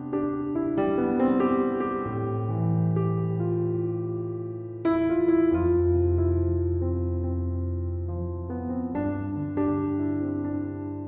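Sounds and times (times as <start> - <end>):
slow keyboard music: 0.0 - 11.0.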